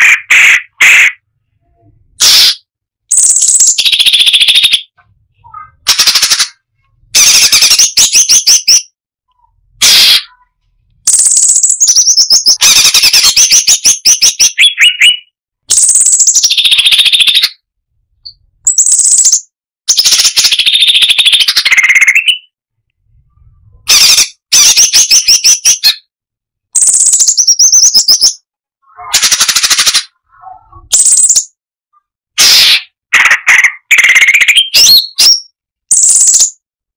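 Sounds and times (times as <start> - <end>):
bird singing rapid notes: 2.2 - 6.6, 7.2 - 17.6, 18.2 - 22.5, 23.4 - 26.1, 26.8 - 31.6, 32.4 - 36.6.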